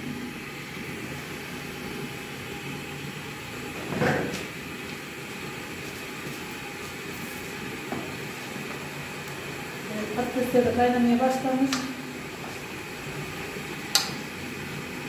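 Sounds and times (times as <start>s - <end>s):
pot cooking on gas burner: 0.0s - 15.0s.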